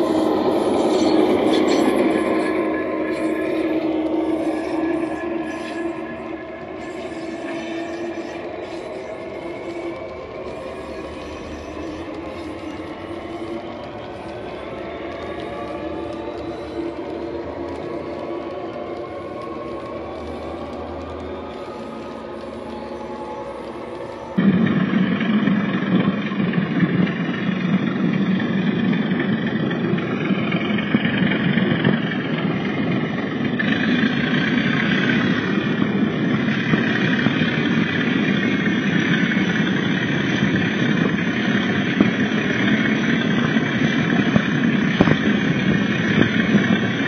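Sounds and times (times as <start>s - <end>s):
high-pitched whine: 0.0s - 47.0s.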